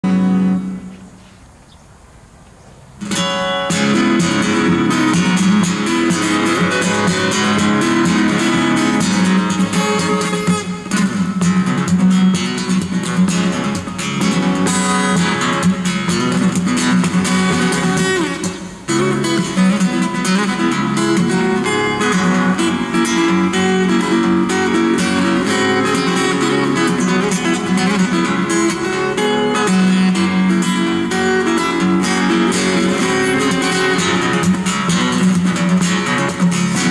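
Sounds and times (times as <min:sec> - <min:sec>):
fingerstyle acoustic guitar: 0:00.0 - 0:01.2, 0:03.0 - 0:36.9.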